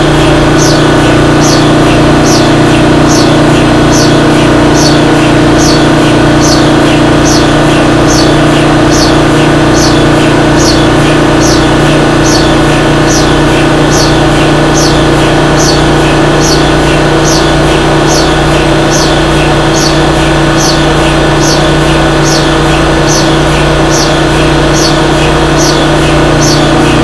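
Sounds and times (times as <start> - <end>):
high falling chirp: 0.0 - 27.0
machine motor humming: 0.0 - 27.0.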